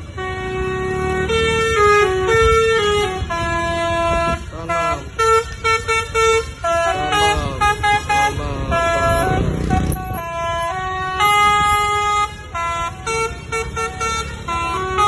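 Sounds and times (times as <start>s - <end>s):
musical bus horn playing a tune: 0.0s - 15.0s.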